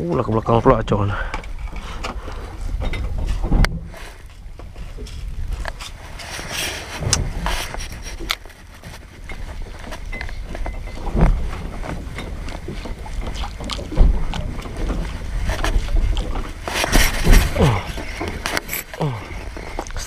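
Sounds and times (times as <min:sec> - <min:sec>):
wind rumbling on microphone: 0:00.0 - 0:20.0
thumps and knocks on boat: 0:01.4 - 0:05.9, 0:07.0 - 0:18.7.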